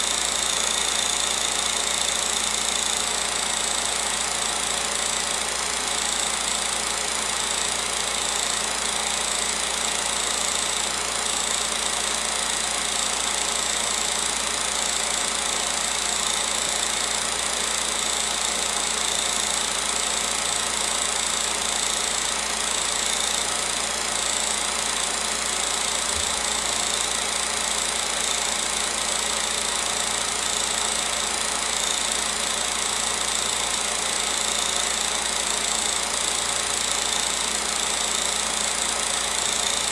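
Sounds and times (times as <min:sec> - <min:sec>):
film projector whirr and clatter: 0:00.0 - 0:39.9.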